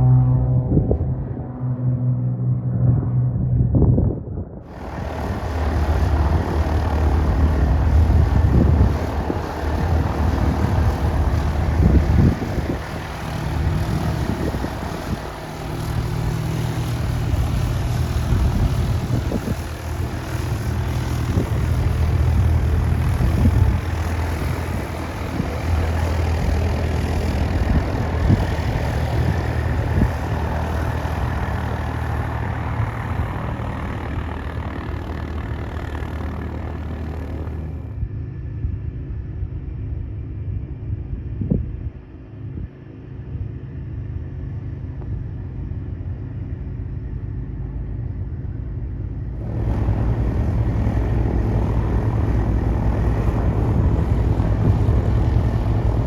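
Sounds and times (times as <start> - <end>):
propeller airplane engine drone: 0.0 - 56.0.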